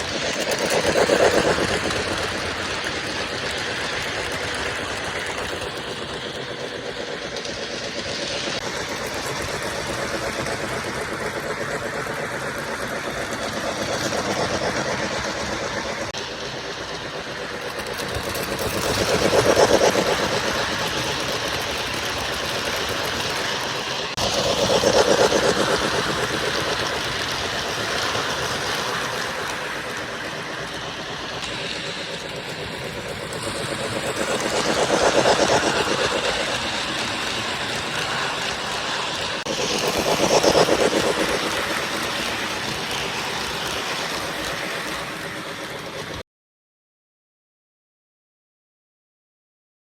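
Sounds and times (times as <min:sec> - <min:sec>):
model train rolling rumble: 0:00.0 - 0:46.2.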